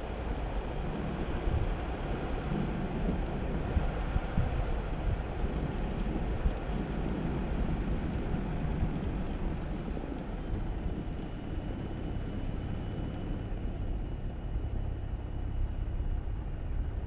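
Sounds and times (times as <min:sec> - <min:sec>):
engine and tyres rumbling: 0:00.0 - 0:17.0.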